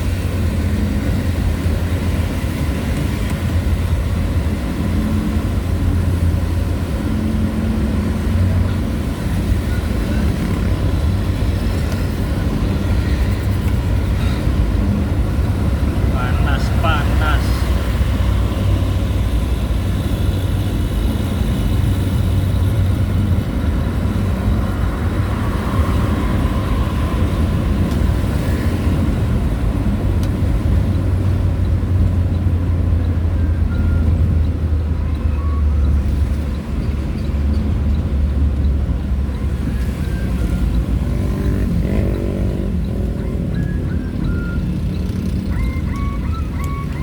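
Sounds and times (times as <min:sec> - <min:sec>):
road noise: 0:00.0 - 0:47.0
vehicle engine rumble: 0:00.0 - 0:47.0.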